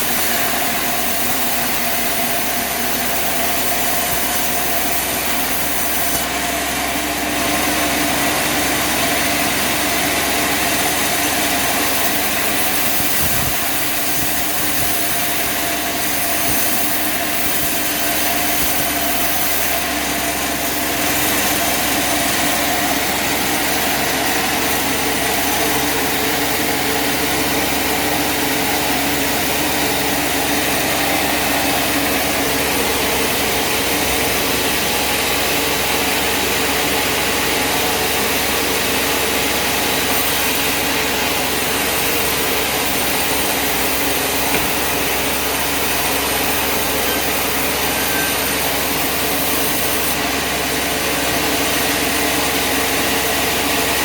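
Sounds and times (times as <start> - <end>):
sawmill engine drone: 0.0 - 54.0.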